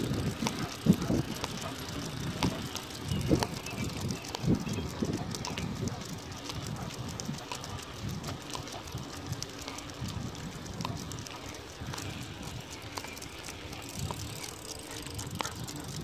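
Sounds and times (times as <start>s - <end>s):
bicycle tyres rolling on asphalt: 0.0s - 16.0s
light clicks: 0.0s - 16.0s.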